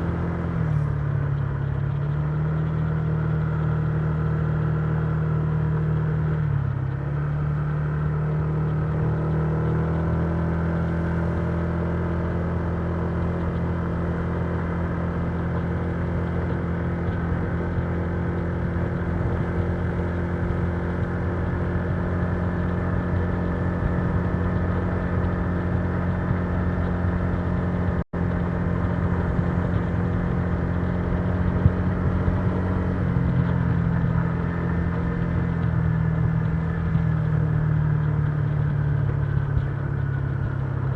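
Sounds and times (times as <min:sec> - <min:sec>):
scooter engine cruising: 0:00.0 - 0:40.9.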